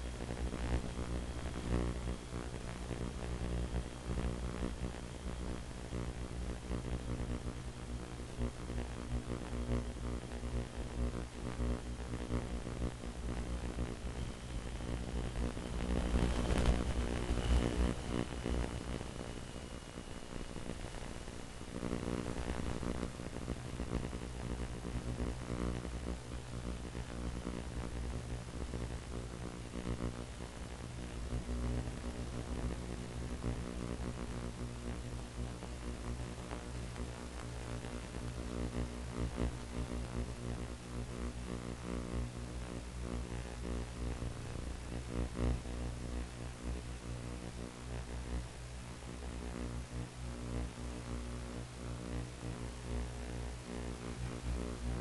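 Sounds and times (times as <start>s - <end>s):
electrical hum: 0.0s - 55.0s
static hiss: 0.0s - 55.0s.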